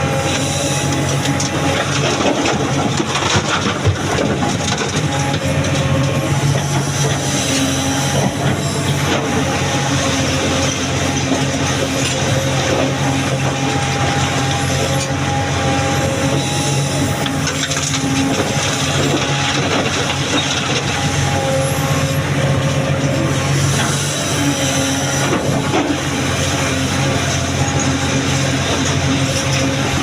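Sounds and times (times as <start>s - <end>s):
diesel engine running: 0.0s - 30.0s
hydraulic whine: 0.0s - 30.0s.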